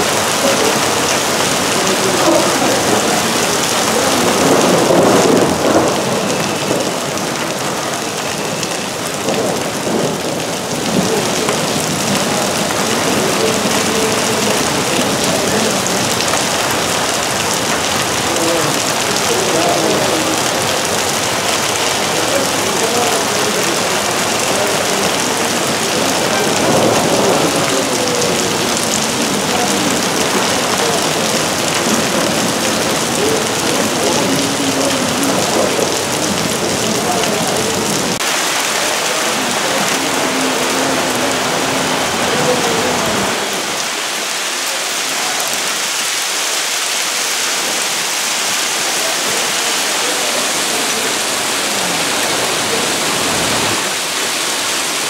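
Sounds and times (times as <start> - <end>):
heavy rain and hail on street: 0.0 - 55.0.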